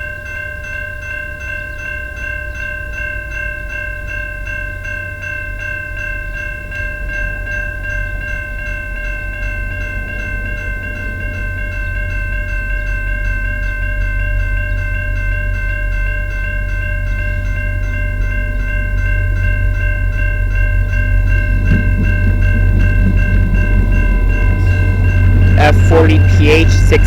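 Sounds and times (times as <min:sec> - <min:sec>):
train rumble: 0:05.0 - 0:27.0.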